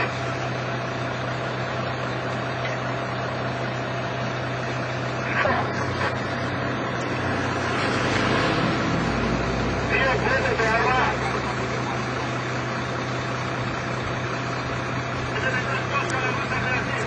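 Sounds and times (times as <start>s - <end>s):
engine hum: 0.0s - 17.0s
low aircraft rumble: 0.0s - 17.0s.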